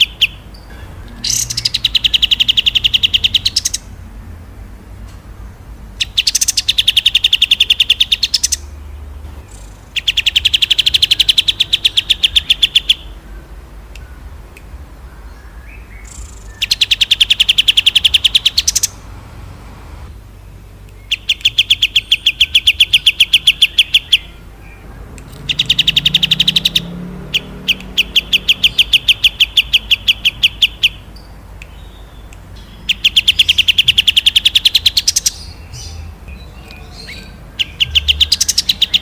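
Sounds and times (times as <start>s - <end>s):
songbird rapid trill: 0.0s - 4.6s, 5.9s - 19.2s, 20.2s - 39.0s.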